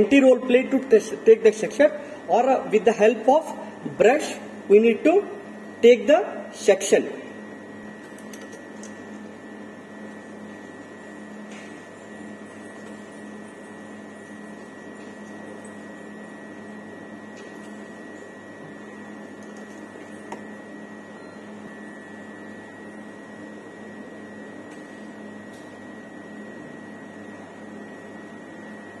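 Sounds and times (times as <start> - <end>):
machine hum with high whine: 0.0 - 29.0.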